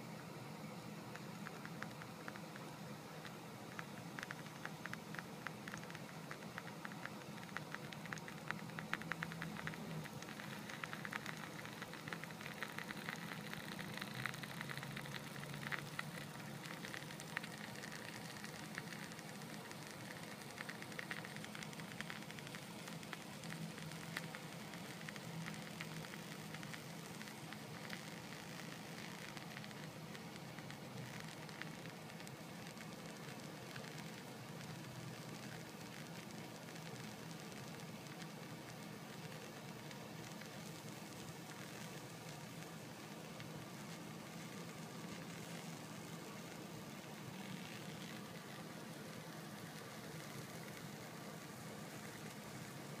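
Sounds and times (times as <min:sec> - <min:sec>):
egg sizzling with tiny pops: 0:00.0 - 0:53.0
low steady hum: 0:00.0 - 0:53.0.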